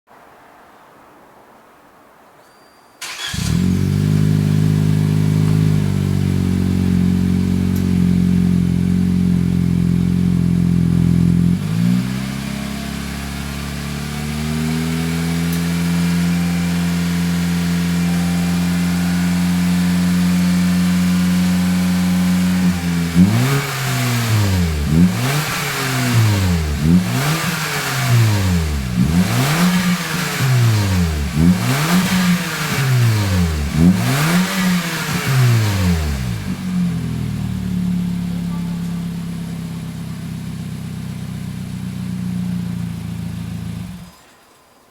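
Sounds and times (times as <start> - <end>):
car engine idling and revving: 3.0 - 44.3.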